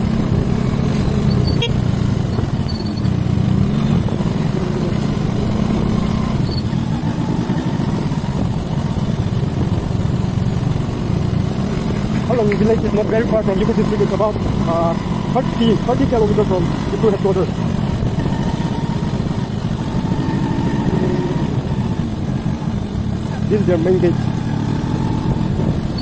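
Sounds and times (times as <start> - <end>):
motor scooter engine: 0.0 - 26.0
road noise: 0.0 - 26.0.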